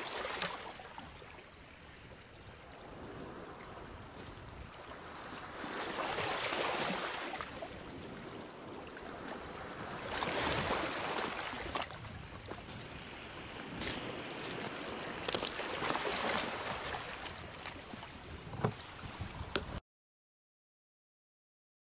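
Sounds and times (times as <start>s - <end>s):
sea waves breaking: 0.0s - 19.8s.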